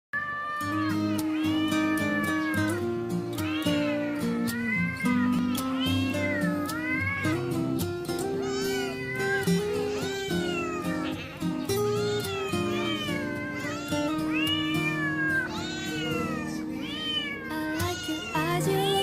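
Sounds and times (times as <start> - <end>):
cats meowing: 0.2 - 19.0
background music: 0.8 - 19.0.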